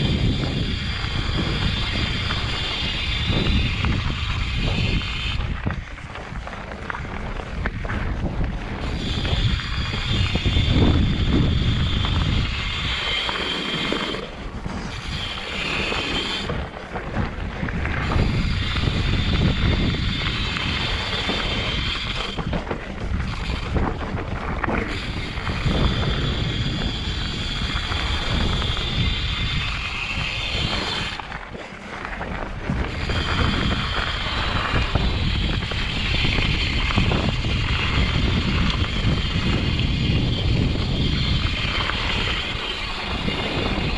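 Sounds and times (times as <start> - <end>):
tyres rolling over dirt and stones: 0.0 - 43.9
wind buffeting microphone: 0.0 - 43.9.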